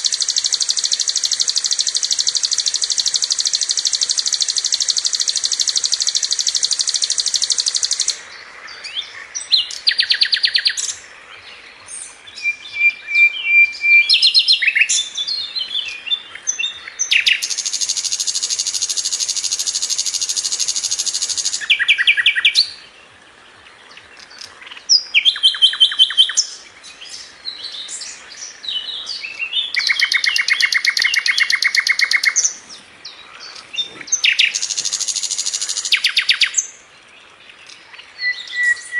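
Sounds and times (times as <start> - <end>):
bird singing rapid trills: 0.0 - 23.0, 23.7 - 38.9.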